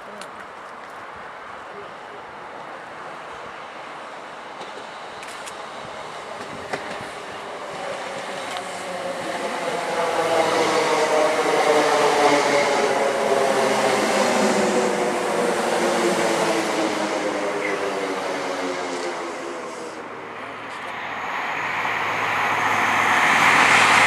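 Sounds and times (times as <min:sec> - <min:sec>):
train hum of several tones: 0:02.6 - 0:24.0
train wheels rumbling on rail: 0:03.3 - 0:24.0.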